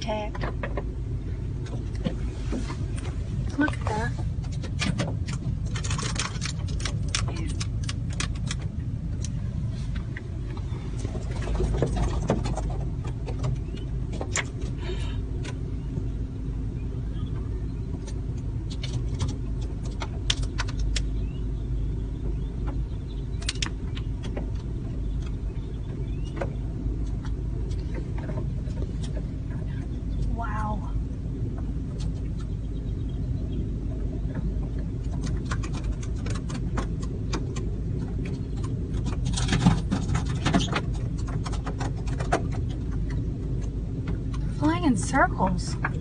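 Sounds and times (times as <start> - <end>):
car engine rumble: 0.0 - 46.0.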